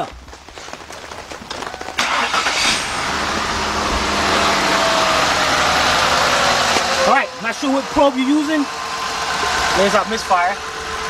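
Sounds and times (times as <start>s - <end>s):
car engine starting and idling: 1.9s - 11.0s.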